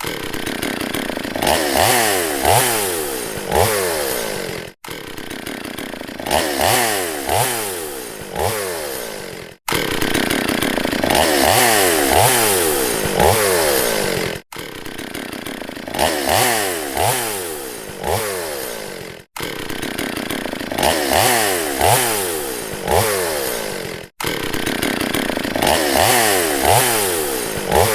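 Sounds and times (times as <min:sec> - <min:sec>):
chainsaw engine revving: 0:00.0 - 0:27.9.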